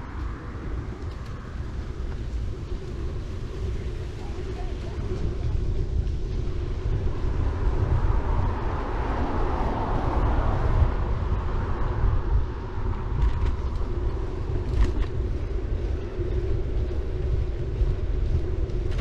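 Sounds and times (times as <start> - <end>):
tyres rolling on road: 0.0 - 19.0
wind buffeting microphone: 0.0 - 19.0.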